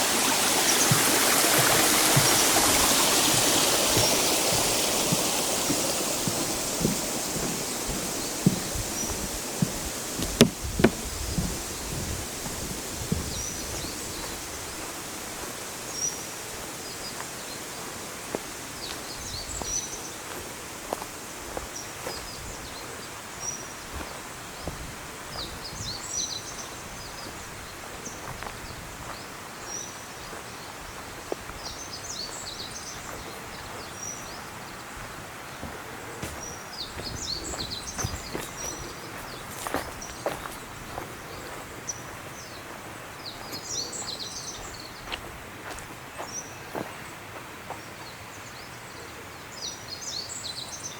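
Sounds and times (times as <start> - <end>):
songbirds chirping: 0.0 - 50.9.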